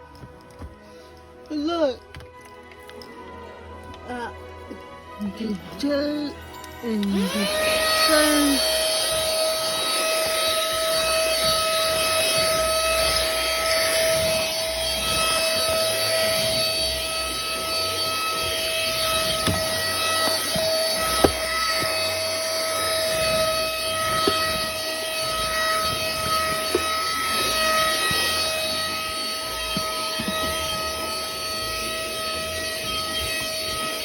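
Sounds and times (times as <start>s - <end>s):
mini vacuum cleaner running: 6.6s - 34.0s.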